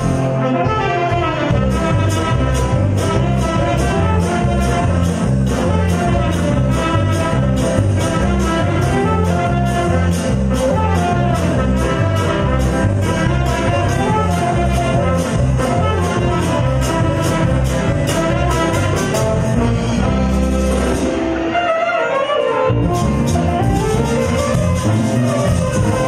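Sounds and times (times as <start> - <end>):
drum kit beat: 0.0 - 21.7, 22.8 - 26.0
live latin band playing: 0.0 - 26.0
saxophone and trumpet lines: 0.0 - 26.0.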